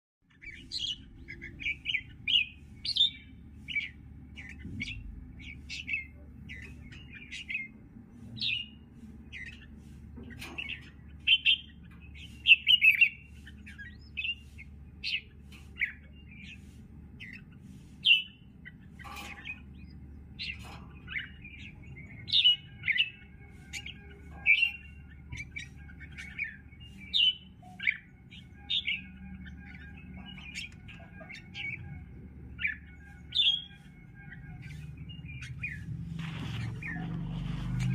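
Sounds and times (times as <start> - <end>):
birds chirping: 0.2 - 37.9.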